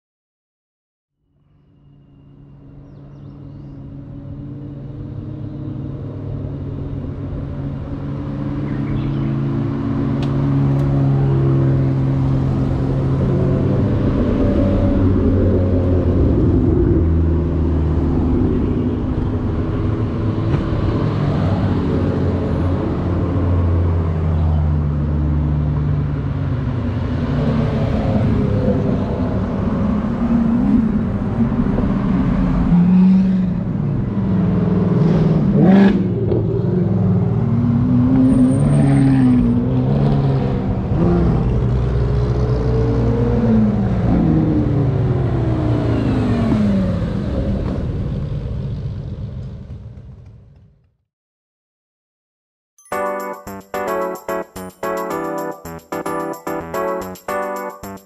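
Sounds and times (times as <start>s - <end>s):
sports car engines rumbling: 2.3s - 50.4s.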